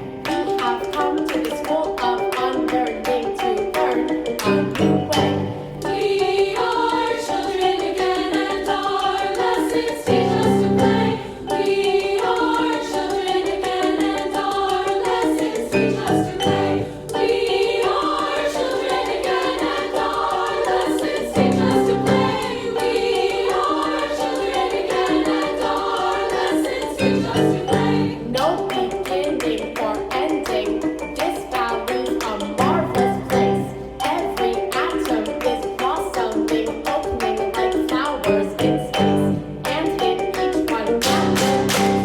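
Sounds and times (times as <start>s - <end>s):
choir singing: 0.0s - 42.0s
instrumental accompaniment: 0.0s - 42.0s.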